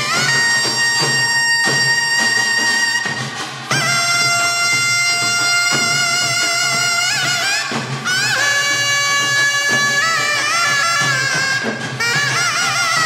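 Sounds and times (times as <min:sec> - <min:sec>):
double-reed shawm melody: 0:00.0 - 0:13.0.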